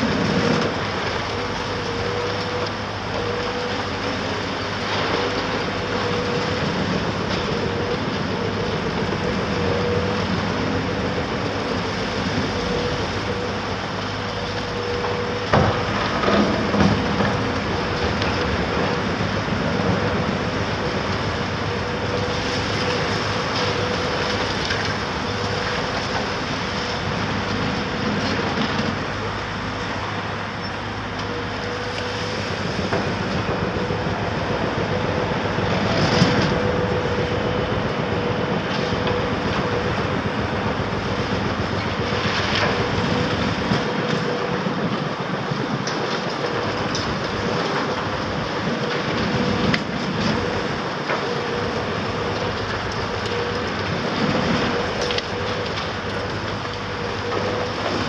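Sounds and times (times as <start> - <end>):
excavator engine drone with whine: 0.0 - 58.0.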